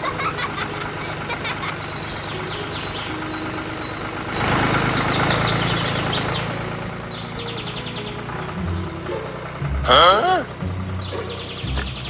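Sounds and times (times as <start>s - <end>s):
tractor engine humming: 0.0s - 12.0s.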